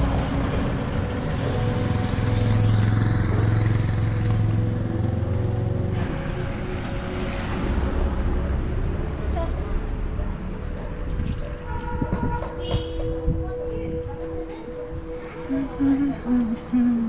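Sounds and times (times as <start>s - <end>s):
vehicle engine humming: 0.0s - 11.6s, 14.3s - 17.0s.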